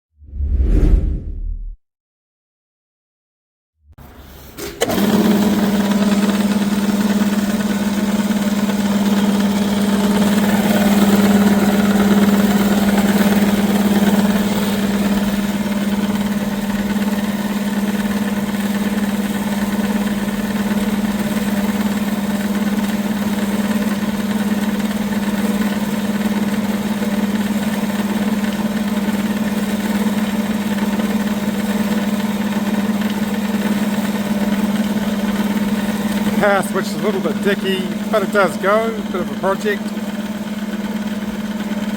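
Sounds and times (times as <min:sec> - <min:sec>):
bandsaw motor humming: 0:04.8 - 0:41.9.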